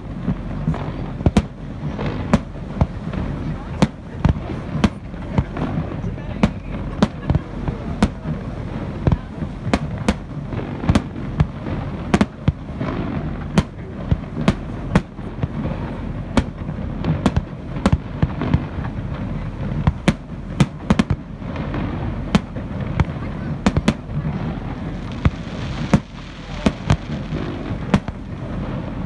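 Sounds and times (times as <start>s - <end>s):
fireworks bursting: 0.0s - 29.0s
low background rumble: 0.0s - 29.0s.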